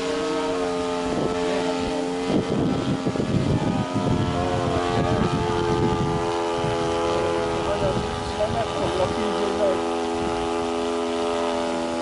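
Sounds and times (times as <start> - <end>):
model airplane engine drone: 0.0 - 12.0
wind buffeting microphone: 0.0 - 12.0.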